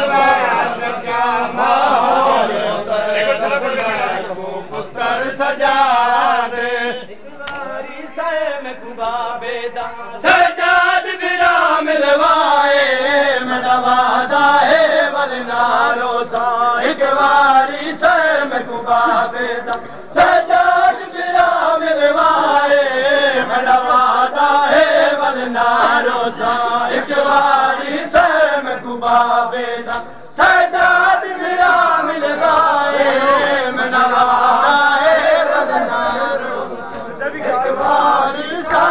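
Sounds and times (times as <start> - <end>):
voices chanting a lament: 0.0 - 38.9.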